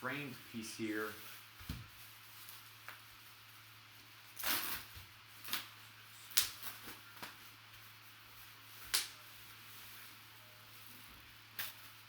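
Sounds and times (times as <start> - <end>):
rustle of handling: 0.0 - 12.0.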